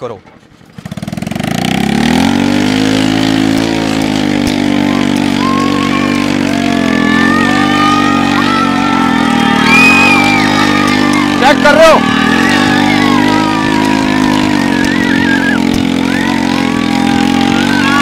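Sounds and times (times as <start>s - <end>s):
motorcycle engine revving: 0.5s - 18.0s.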